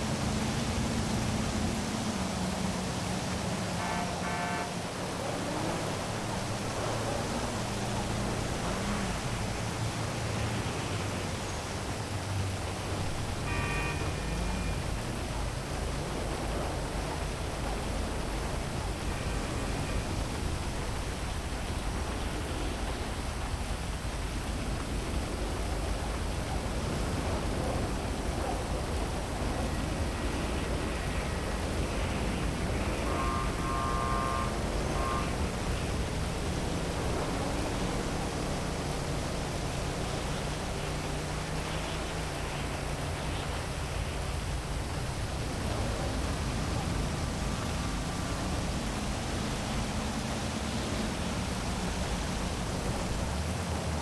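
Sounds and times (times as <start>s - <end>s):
heavy rain falling: 0.0s - 54.0s
low city rumble: 0.0s - 54.0s.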